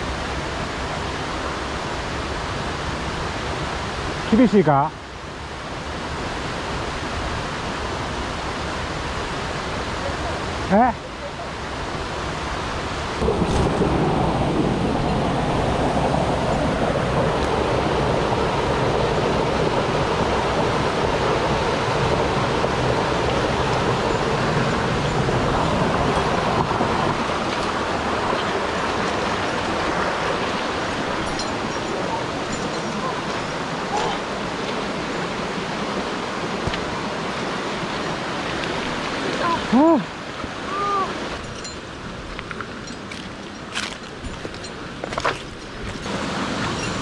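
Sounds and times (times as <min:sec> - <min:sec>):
mountain stream rushing: 0:00.0 - 0:47.0.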